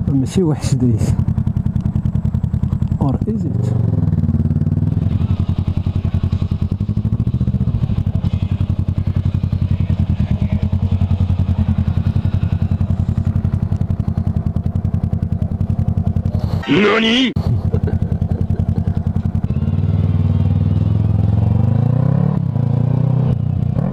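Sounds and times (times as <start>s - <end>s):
motorcycle engine running at low revs: 0.0s - 23.9s.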